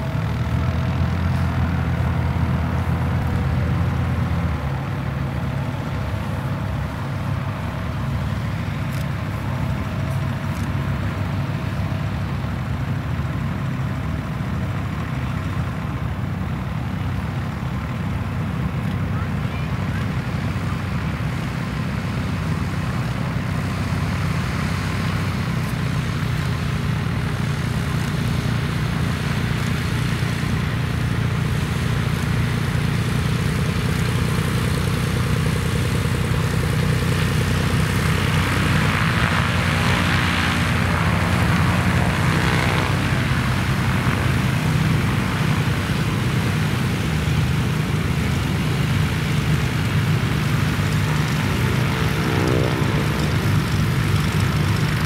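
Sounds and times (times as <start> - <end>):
propeller plane engine buzzing: 0.0 - 55.0.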